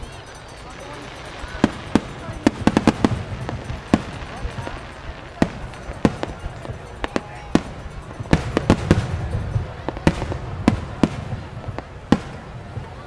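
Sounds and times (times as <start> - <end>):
fireworks cracks and bangs: 0.7 - 13.0.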